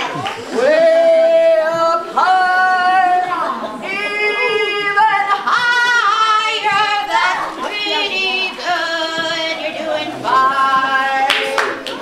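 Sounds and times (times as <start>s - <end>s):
children and women singing: 0.0s - 12.0s.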